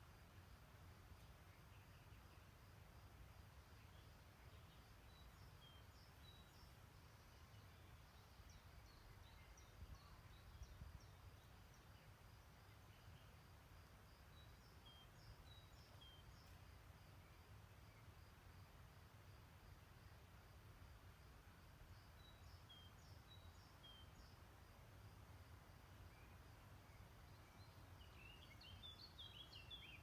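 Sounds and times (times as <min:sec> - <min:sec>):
faint distant birdsong: 0:00.0 - 0:30.0.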